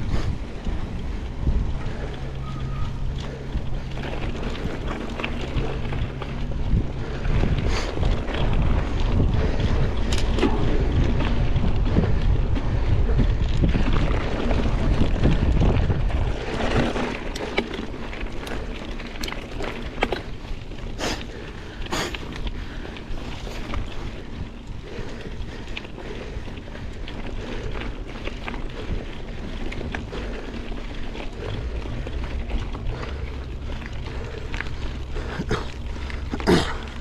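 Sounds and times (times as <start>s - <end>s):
bike clicks and rattles: 0.0s - 37.0s
bike tyres rumbling on gravel: 0.0s - 37.0s
wind buffeting microphone: 0.0s - 37.0s.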